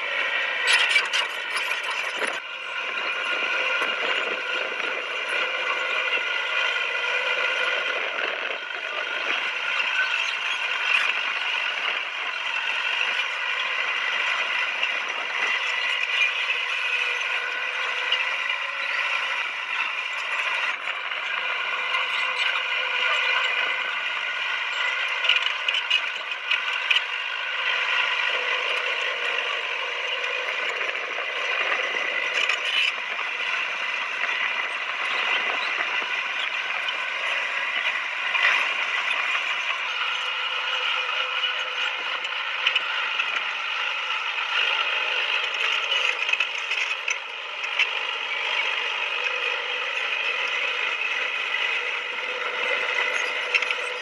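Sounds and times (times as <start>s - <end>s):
steady high whine: 0.0s - 54.0s.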